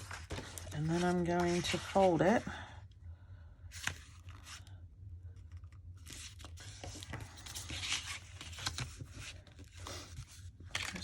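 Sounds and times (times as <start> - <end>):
paper rustling and crackling: 0.0 - 2.4, 3.7 - 4.7, 5.4 - 11.0.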